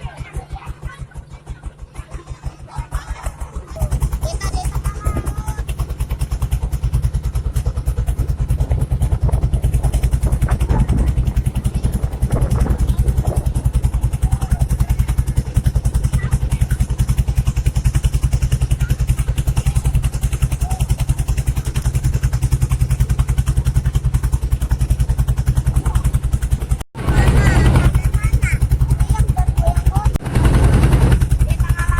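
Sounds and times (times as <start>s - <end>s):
boat engine running: 0.0s - 31.9s.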